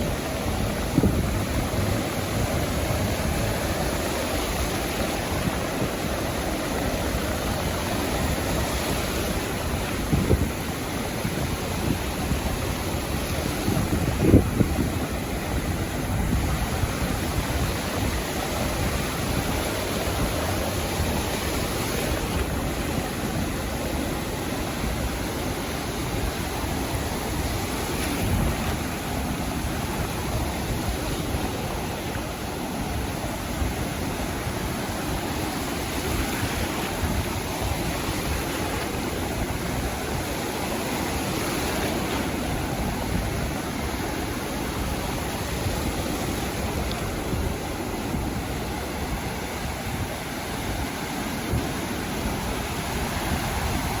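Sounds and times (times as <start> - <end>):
sea waves washing on beach: 0.0 - 54.0.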